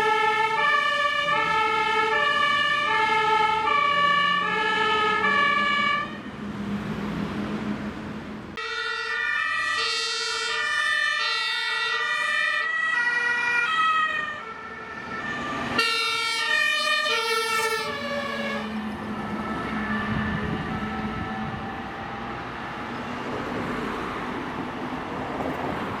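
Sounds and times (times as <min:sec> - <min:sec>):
two-tone sirens: 0:00.0 - 0:07.4, 0:08.5 - 0:25.0
heavy vehicle engines: 0:00.0 - 0:26.0.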